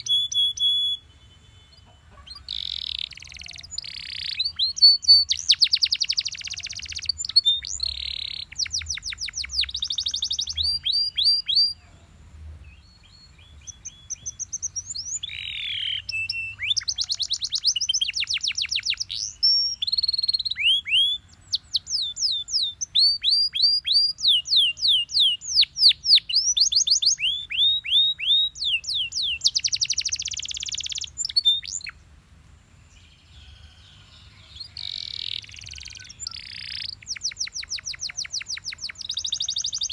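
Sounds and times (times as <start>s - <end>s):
canary singing: 0.0s - 12.0s, 12.7s - 32.0s, 33.0s - 39.9s.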